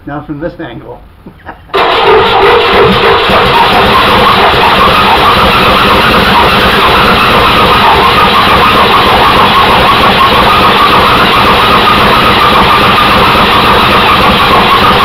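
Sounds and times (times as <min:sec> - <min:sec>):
air-cooled engine running: 0:01.7 - 0:15.0
high whine: 0:01.7 - 0:15.0.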